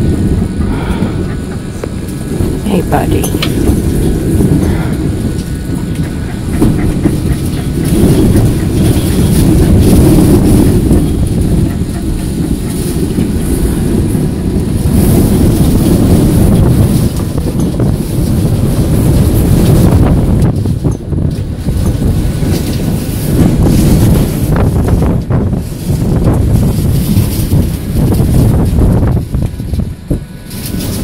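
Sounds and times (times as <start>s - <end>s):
wind buffeting trailer: 0.0s - 31.0s.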